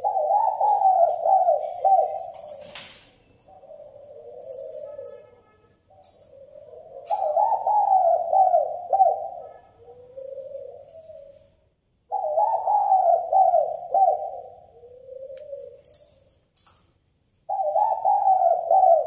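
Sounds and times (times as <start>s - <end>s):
dove cooing: 0.0s - 16.4s, 17.4s - 19.0s.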